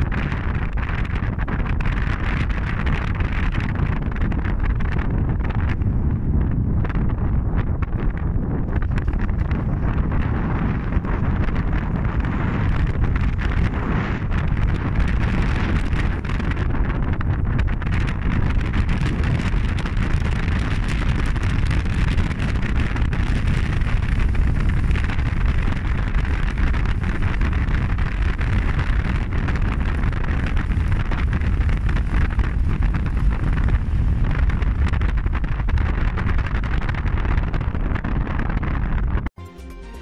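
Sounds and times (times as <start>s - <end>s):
strong wind buffeting microphone: 0.0s - 39.4s.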